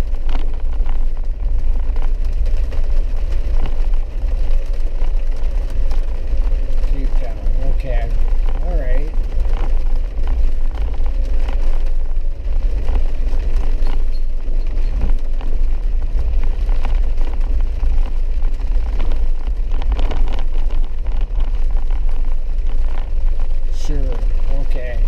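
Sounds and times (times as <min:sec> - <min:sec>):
vehicle engine and tyres rumbling: 0:00.0 - 0:25.0.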